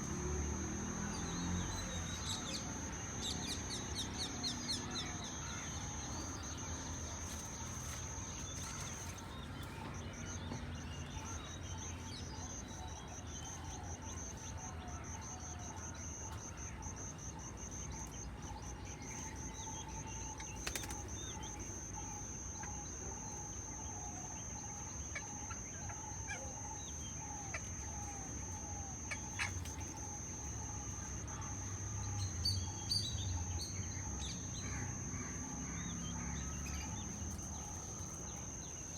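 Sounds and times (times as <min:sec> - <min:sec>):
birds calling and chirping: 0:00.0 - 0:38.9
steady high-pitched whine: 0:00.0 - 0:38.9.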